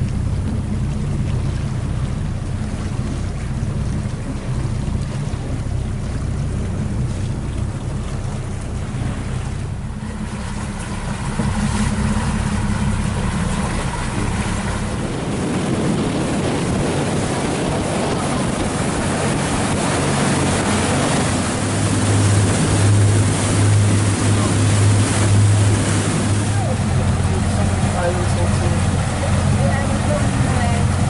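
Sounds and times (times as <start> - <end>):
motorboat engine running: 0.0 - 31.0
water noise: 0.0 - 31.0
wind: 0.0 - 31.0.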